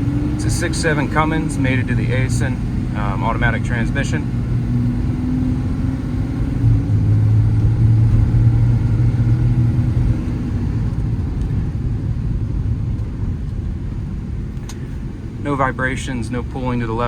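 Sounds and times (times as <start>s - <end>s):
diesel engine drone: 0.0s - 17.0s
road noise rumble: 0.0s - 17.0s.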